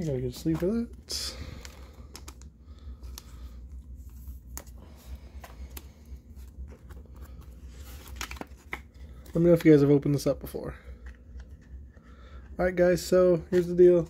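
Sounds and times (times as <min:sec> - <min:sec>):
low steady hum: 0:00.0 - 0:14.0
card sleeve rustling and clicks: 0:00.2 - 0:10.3, 0:10.9 - 0:12.6, 0:13.4 - 0:14.0.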